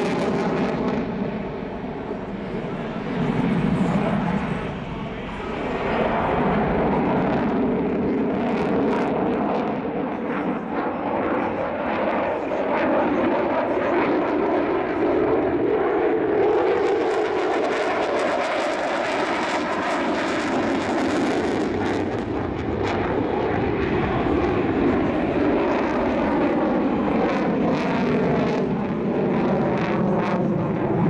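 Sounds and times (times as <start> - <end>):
jet with afterburner: 0.0 - 31.0.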